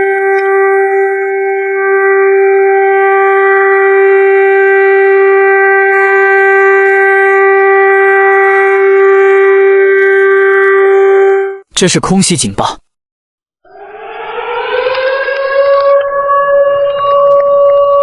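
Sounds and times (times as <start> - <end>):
air-raid siren steady tone: 0.0 - 11.6, 13.7 - 18.0.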